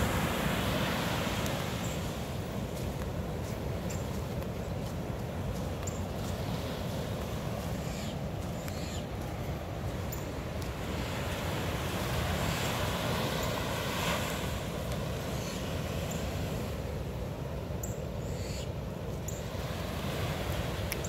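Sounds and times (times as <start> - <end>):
surf washing on shore: 0.0 - 21.0.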